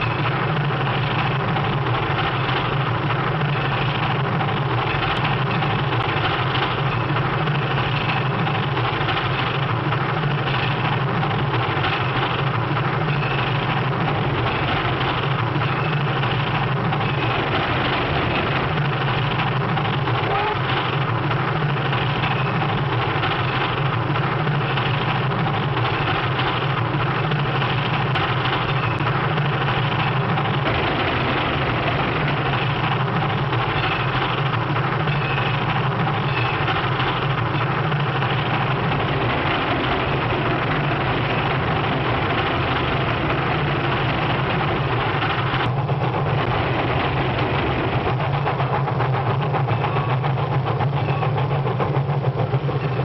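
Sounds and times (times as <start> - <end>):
steam train running: 0.0 - 53.0.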